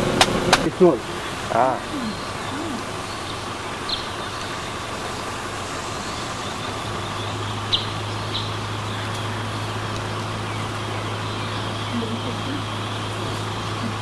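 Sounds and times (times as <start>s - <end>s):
low steady hum: 0.0s - 14.0s
outdoor background noise: 0.0s - 14.0s.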